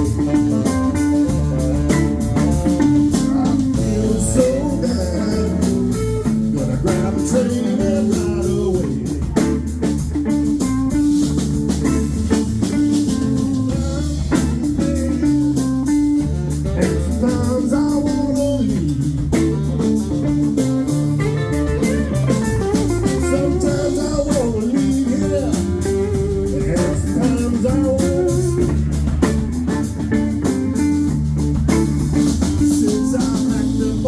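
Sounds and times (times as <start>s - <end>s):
blues-rock band playing: 0.0s - 34.0s.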